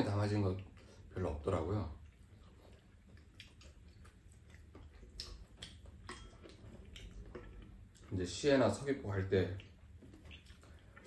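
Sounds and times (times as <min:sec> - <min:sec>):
chewing: 0:00.3 - 0:11.0.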